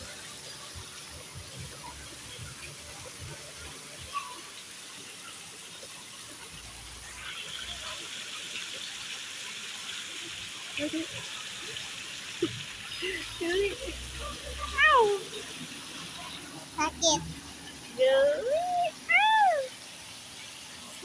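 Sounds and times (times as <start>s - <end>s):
running splashing water: 0.0s - 21.0s.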